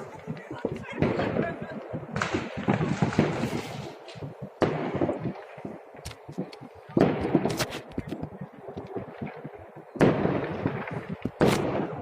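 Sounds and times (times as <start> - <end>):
firework bangs: 0.0 - 12.0
firework pops and crackles: 0.0 - 12.0.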